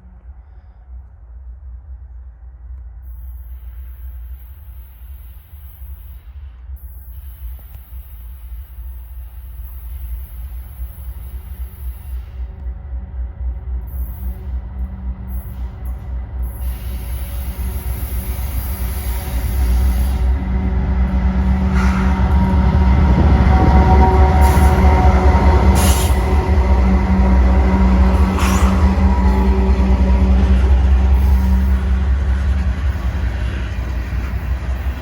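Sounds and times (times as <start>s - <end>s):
diesel locomotive rumble: 0.0s - 35.0s.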